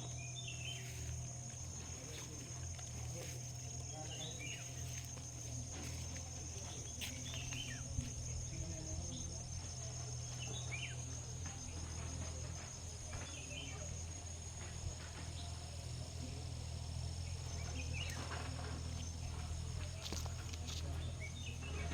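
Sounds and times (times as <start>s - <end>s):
insects trilling: 0.0s - 21.9s
low steady hum: 0.0s - 21.9s.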